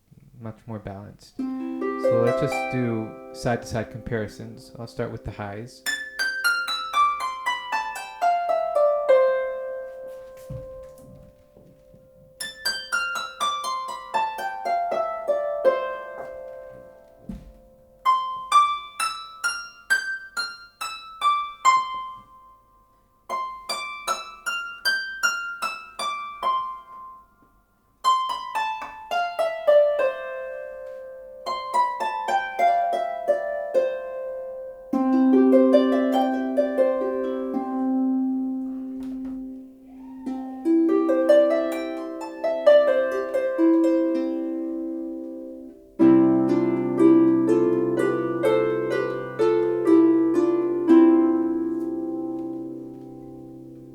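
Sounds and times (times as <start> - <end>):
low harp notes: 0.3 - 19.4, 28.1 - 53.9
harp plucked notes: 1.4 - 22.6, 28.0 - 53.9.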